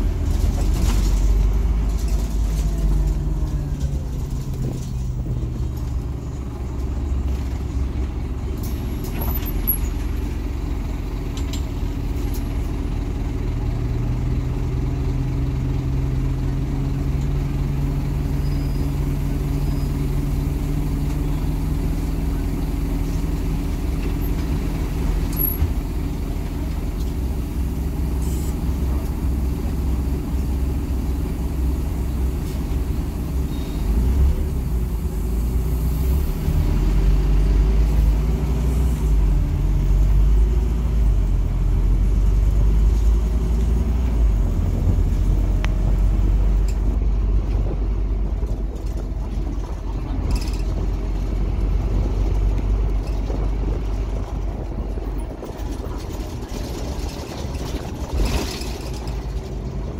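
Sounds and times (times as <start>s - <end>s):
bus engine humming: 0.0s - 59.9s.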